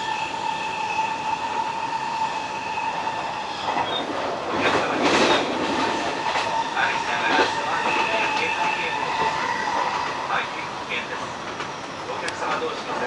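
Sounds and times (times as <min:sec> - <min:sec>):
electric train whine: 0:00.0 - 0:13.0
train wheels rumbling on rails: 0:00.0 - 0:13.0.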